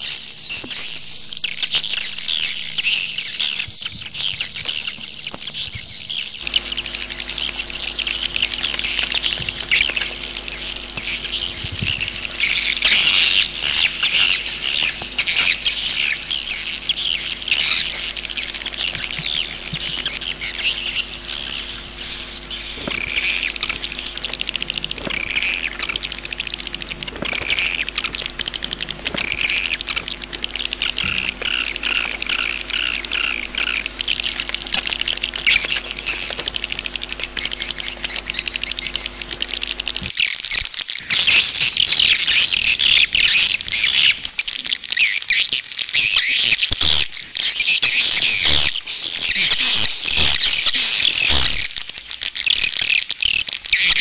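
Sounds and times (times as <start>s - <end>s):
steady low hum: 0.0s - 54.0s
swiftlets twittering: 0.0s - 54.0s.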